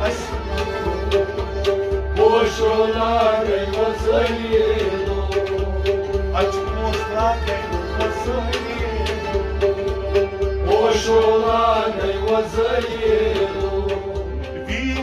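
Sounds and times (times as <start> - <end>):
hand drum beat: 0.0 - 15.0
harmonium drone: 0.0 - 15.0
men singing: 0.0 - 15.0.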